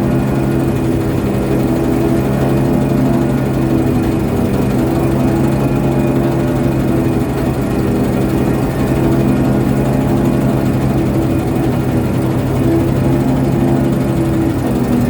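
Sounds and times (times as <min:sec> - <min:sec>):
ship engine droning: 0:00.0 - 0:15.0.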